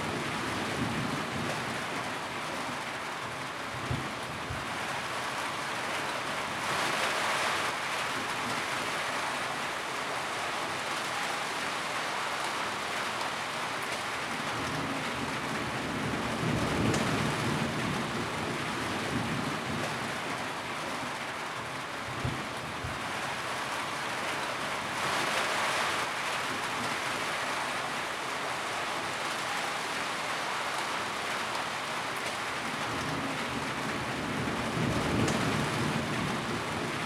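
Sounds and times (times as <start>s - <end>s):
rain drumming on a tin roof: 0.0s - 37.0s.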